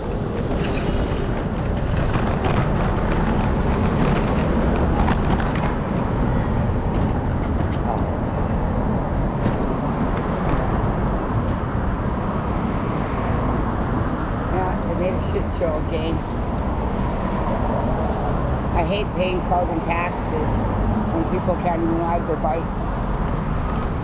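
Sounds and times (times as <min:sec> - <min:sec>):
low rumble of rolling on pavement: 0:00.0 - 0:21.7
road traffic: 0:00.0 - 0:24.0.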